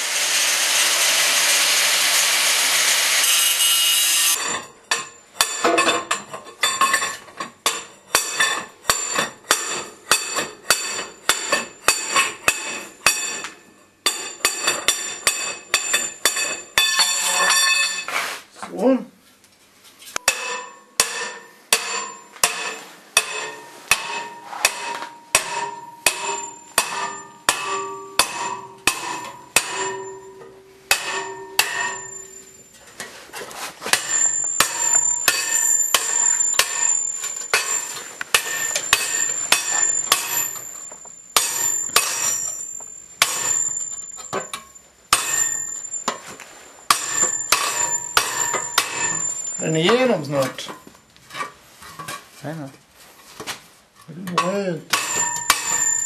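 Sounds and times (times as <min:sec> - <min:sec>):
hammer striking metal pipe: 0:00.7 - 0:18.1, 0:20.2 - 0:33.1, 0:33.8 - 0:50.8, 0:54.3 - 0:56.0
metal pipe ringing: 0:03.2 - 0:18.1, 0:20.2 - 0:33.2, 0:33.8 - 0:50.9, 0:54.3 - 0:56.0.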